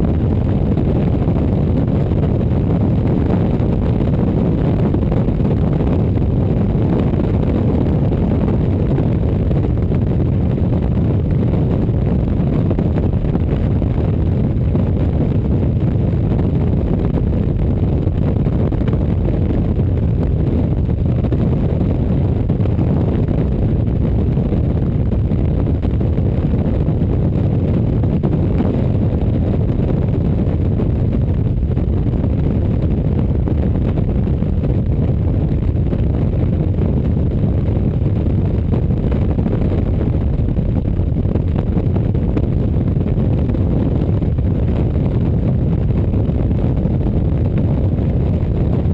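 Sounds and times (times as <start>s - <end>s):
wind rush on microphone: 0.0s - 48.9s.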